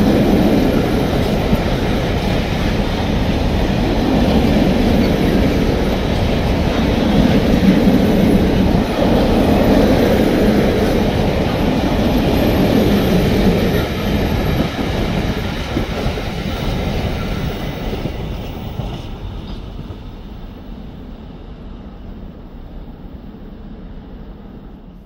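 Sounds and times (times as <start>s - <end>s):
train wheels clattering over rails: 0.0s - 20.5s.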